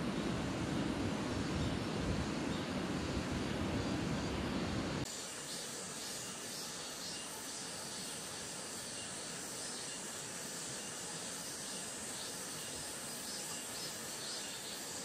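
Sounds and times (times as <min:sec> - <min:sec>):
insects chirring: 0:00.1 - 0:15.0.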